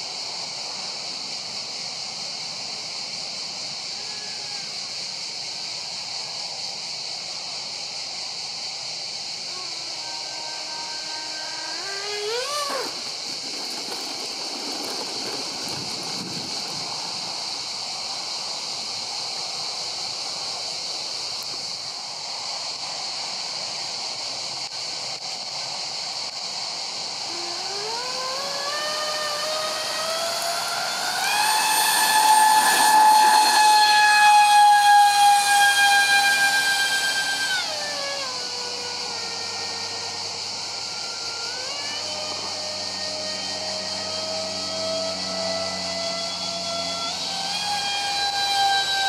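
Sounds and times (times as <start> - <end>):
electric ducted fans hissing: 0.0 - 49.0
fan whine rising in pitch: 6.1 - 23.5, 25.8 - 49.0.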